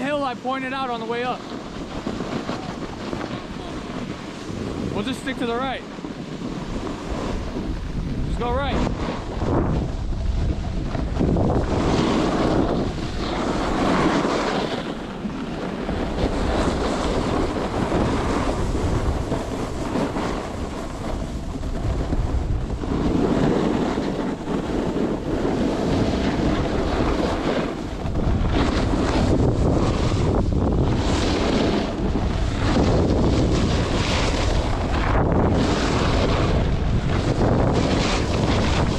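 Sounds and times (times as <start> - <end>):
snowboard hissing on snow: 0.0 - 38.9
wind buffeting microphone: 0.0 - 38.9.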